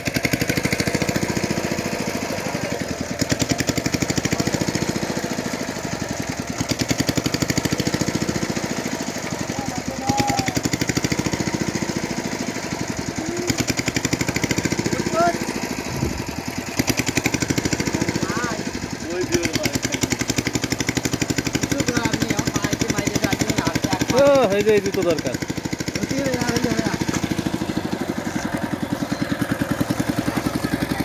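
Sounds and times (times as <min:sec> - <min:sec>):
small engine chugging: 0:00.0 - 0:31.0.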